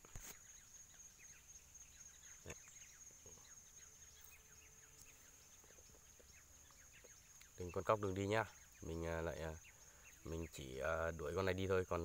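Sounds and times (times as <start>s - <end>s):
faint chirps: 0.0s - 12.0s
faint insect drone: 0.0s - 12.0s.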